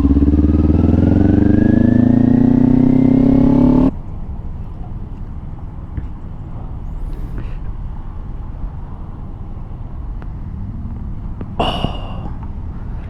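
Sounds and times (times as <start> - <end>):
motorcycle engine rumble: 0.0 - 13.0
wind: 0.0 - 13.0.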